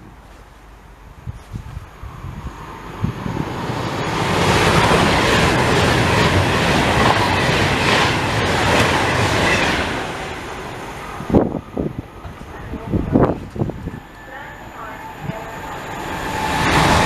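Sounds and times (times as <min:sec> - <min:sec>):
train passing with rail clatter: 0:00.0 - 0:17.0.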